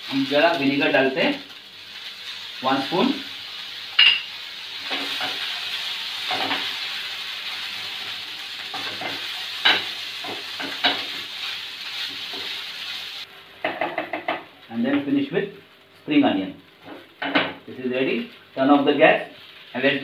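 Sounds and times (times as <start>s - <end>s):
fried rice sizzling in a pan: 0.0s - 15.2s, 16.7s - 20.0s.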